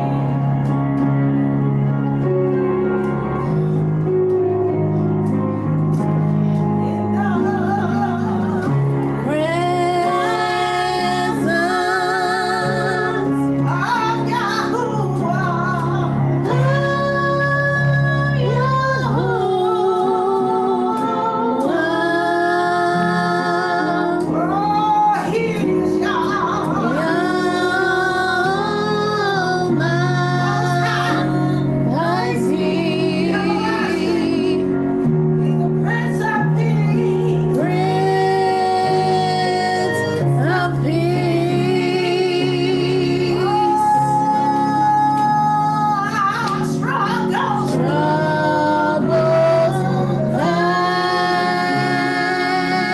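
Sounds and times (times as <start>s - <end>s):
low instrumental backing: 0.0s - 52.9s.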